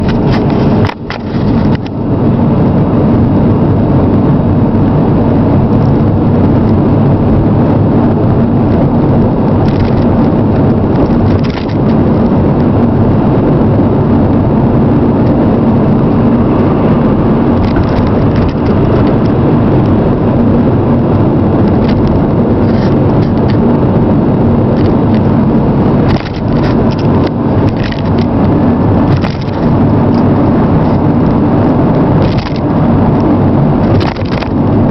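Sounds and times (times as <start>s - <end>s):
car road noise: 0.0s - 34.9s.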